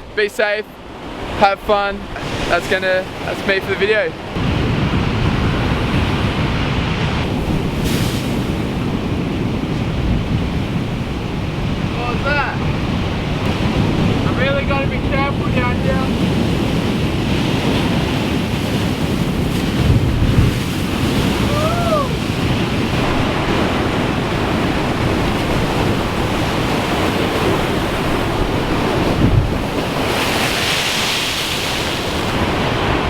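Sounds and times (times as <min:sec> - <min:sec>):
ocean swell breaking on rocks: 0:00.0 - 0:33.0
wind buffeting microphone: 0:04.2 - 0:33.0.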